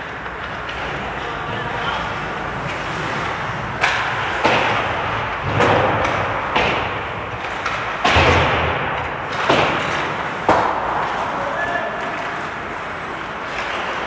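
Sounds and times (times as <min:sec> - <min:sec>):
hockey sticks and puck knocks: 0:00.0 - 0:14.0
skate scrape: 0:00.0 - 0:14.0.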